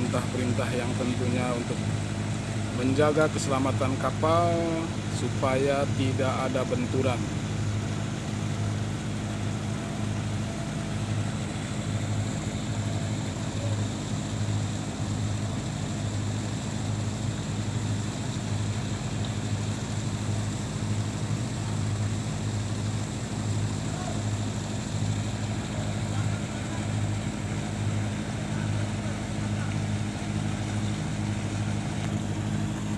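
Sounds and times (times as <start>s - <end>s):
boat engine pulsing hum: 0.0s - 32.9s.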